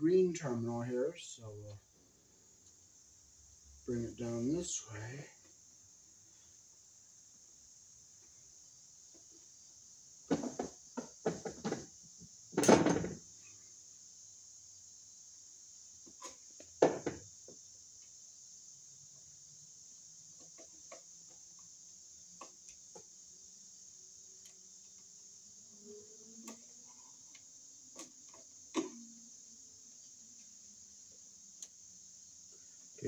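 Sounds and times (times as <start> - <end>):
steady high-pitched hiss: 0.0 - 33.0.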